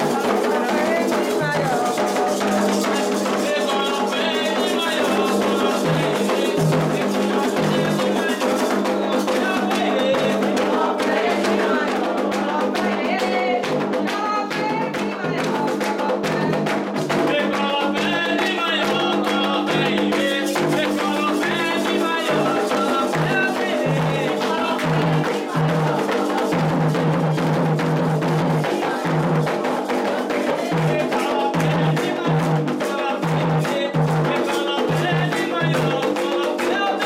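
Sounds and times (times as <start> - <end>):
hand drums playing: 0.0 - 37.0
people chanting: 0.0 - 37.0
sharp percussion strikes: 0.0 - 37.0.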